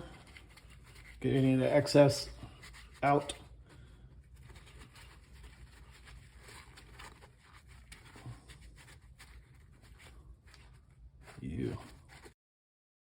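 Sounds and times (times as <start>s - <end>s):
cloth towel rubbing: 0.0s - 12.4s.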